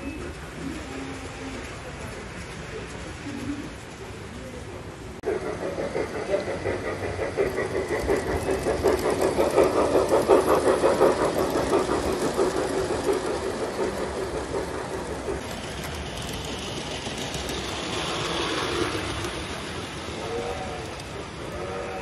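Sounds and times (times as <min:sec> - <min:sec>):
model train clicking on track: 0:00.1 - 0:22.0.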